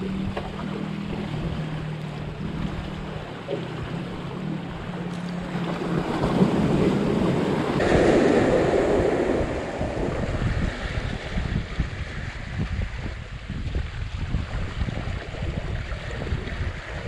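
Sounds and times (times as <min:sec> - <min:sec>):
surf breaking on shore: 0:00.0 - 0:17.0
wind buffeting microphone: 0:00.0 - 0:17.0.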